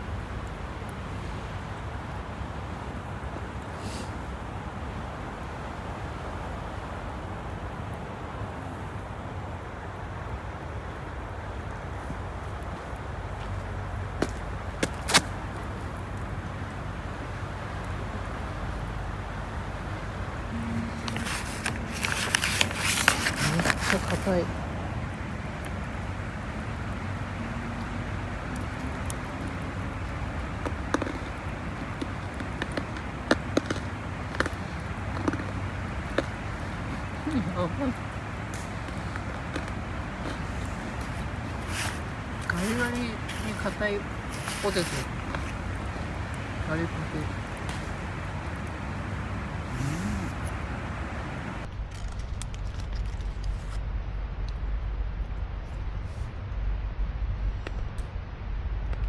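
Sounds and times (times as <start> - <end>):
wind blowing: 0.0 - 51.7
wind rumble on microphone: 0.0 - 59.0.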